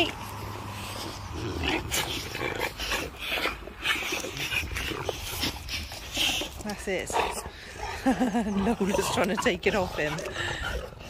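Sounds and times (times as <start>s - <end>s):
dogs huffing and scuffling: 0.0s - 11.0s.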